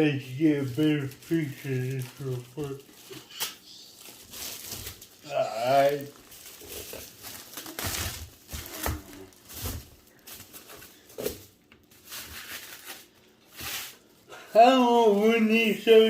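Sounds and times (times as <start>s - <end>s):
tissue paper rustling: 0.0s - 16.0s.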